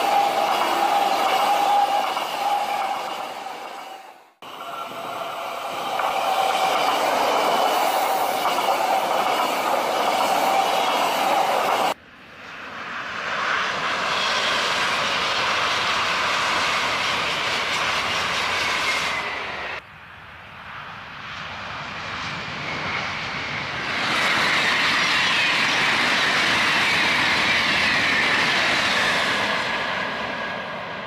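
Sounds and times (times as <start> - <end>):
high-speed train passing: 0.0 - 31.0.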